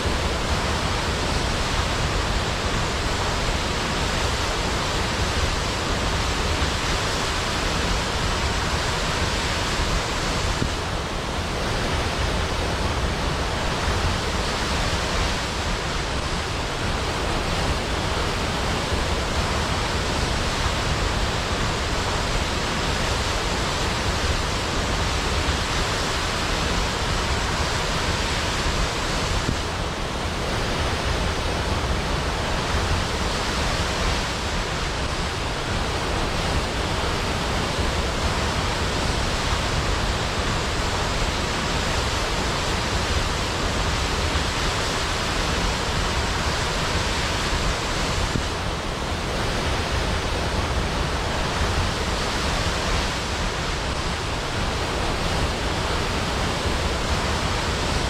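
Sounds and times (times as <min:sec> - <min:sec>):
waterfall pouring and splashing: 0:00.0 - 0:58.0.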